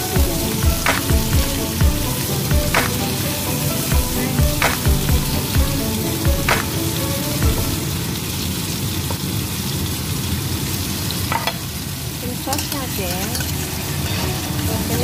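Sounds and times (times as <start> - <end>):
skewers sizzling in oil: 0.0 - 15.0.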